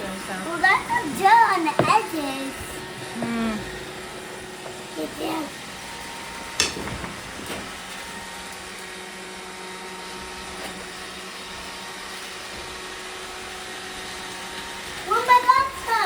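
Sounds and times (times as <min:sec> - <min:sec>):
robot vacuum hum and whine: 0:00.0 - 0:16.0.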